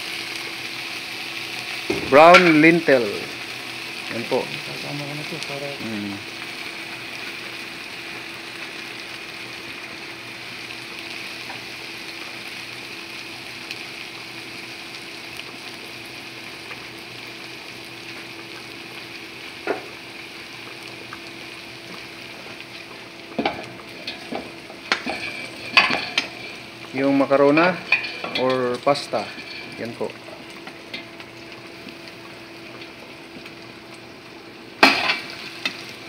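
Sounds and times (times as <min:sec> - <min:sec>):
lentils sizzling in a pot: 0:00.0 - 0:36.0.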